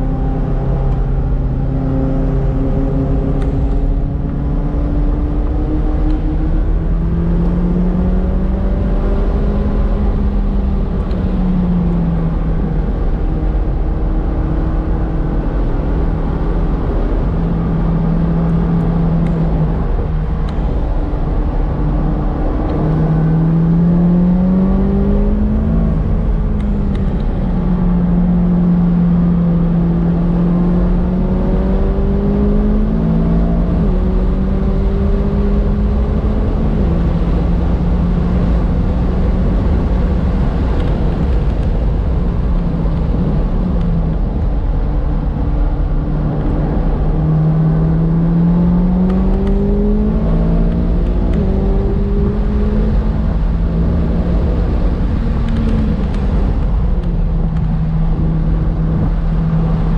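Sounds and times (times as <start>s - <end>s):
sports car engine shifting gears: 0.0s - 59.9s.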